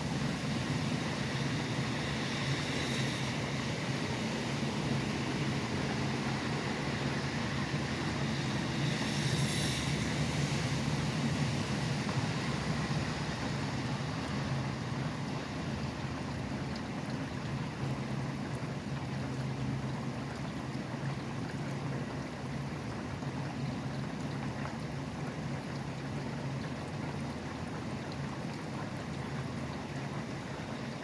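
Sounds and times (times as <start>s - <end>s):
highway traffic rumble: 0.0s - 31.0s.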